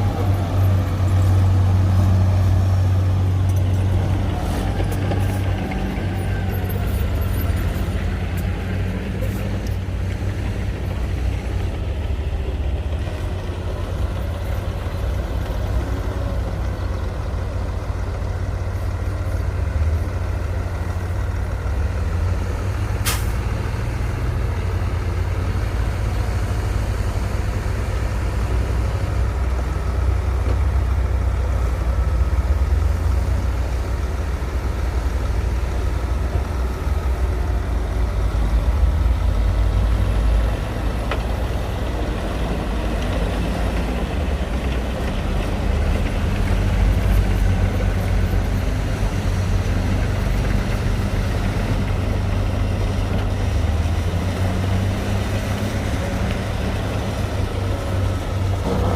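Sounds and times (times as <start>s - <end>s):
heavy diesel engine under load: 0.0s - 58.9s.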